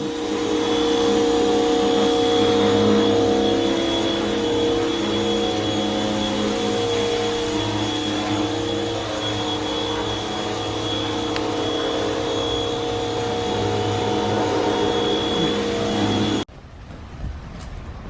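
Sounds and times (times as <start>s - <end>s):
motor-driven machine running: 0.0s - 16.5s
thin high whine: 0.0s - 16.5s.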